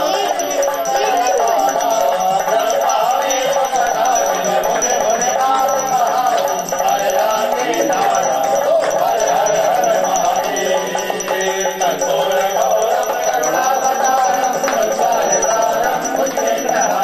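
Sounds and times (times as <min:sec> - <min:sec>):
person chanting melodically: 0:00.0 - 0:17.0
small bells jingling: 0:00.0 - 0:17.0.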